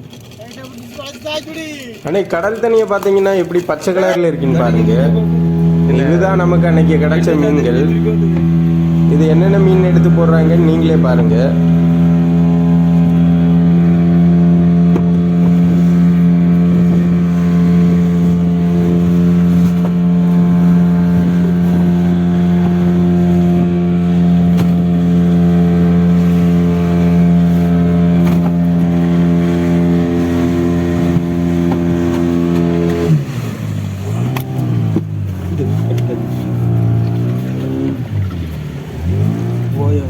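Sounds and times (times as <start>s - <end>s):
boat engine droning: 0.0s - 40.0s.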